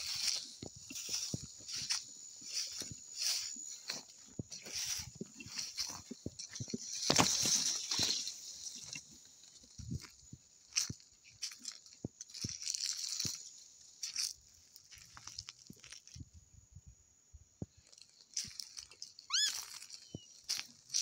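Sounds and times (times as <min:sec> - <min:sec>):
footsteps crunching through dry leaves: 0:00.0 - 0:16.2, 0:17.8 - 0:21.0
steady high-pitched hiss: 0:00.0 - 0:21.0.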